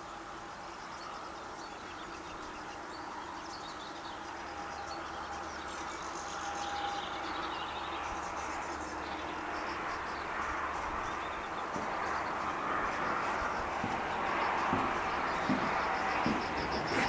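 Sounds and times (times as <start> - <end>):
distant mechanical hum: 0.0 - 17.0
small birds chirping: 0.0 - 17.0.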